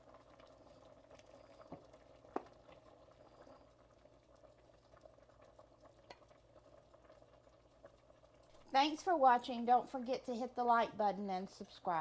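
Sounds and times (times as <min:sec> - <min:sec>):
pot bubbling at a simmer: 0:00.0 - 0:12.0.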